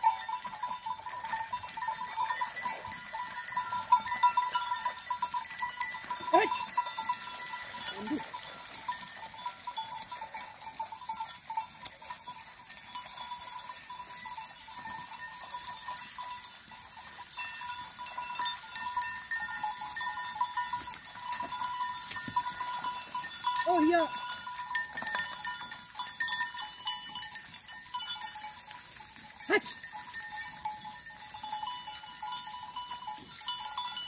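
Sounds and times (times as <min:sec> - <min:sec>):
hooves clicking and rustling: 0:00.0 - 0:34.0.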